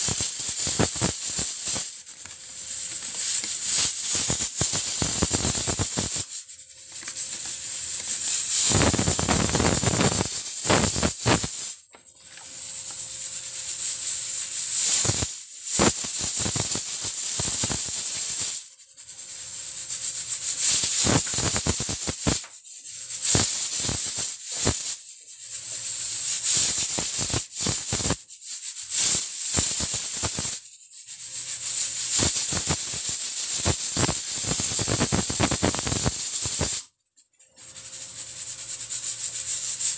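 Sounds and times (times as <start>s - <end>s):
pressure cooker hissing and rattling: 0.0s - 39.9s.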